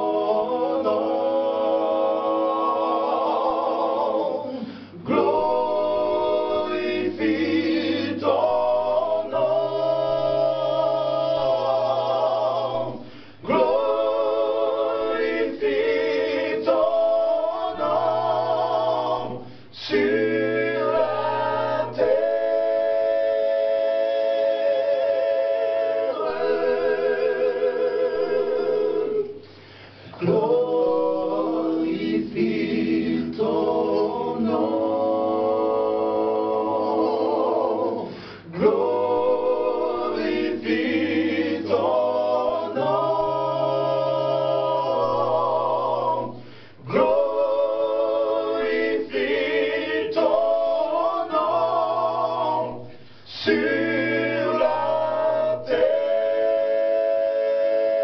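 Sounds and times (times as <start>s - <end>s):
male vocal quartet singing: 0.0s - 58.0s.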